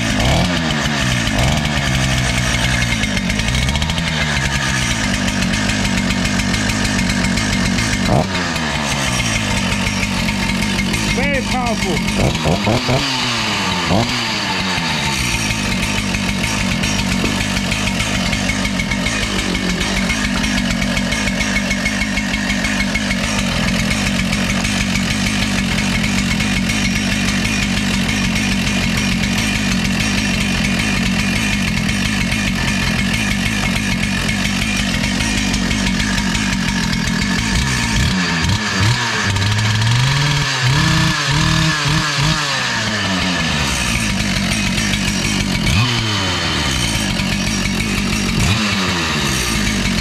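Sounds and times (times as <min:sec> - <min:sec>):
cut-off saw engine running and revving: 0:00.0 - 0:50.0.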